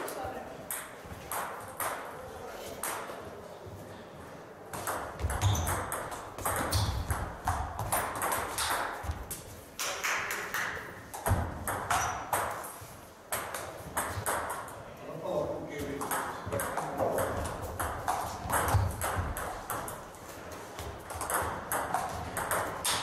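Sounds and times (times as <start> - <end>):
balls bouncing on table: 0.6 - 3.3, 4.7 - 14.8, 15.8 - 23.0
table tennis balls clicking: 0.6 - 3.3, 4.8 - 14.8, 15.9 - 23.0.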